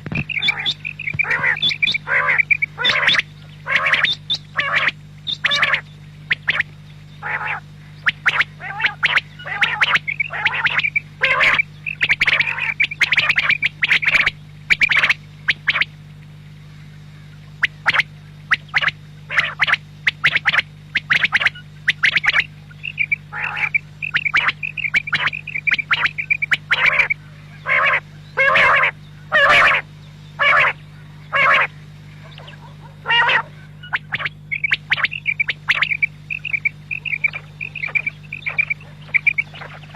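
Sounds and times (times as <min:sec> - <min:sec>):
quail calling: 0:00.0 - 0:15.9, 0:17.5 - 0:39.9
steady low hum: 0:00.0 - 0:39.9.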